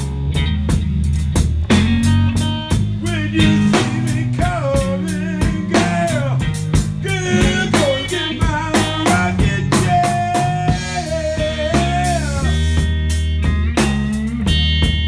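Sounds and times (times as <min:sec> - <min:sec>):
blues-rock band playing: 0:00.0 - 0:15.0
bending melody line: 0:01.6 - 0:15.0.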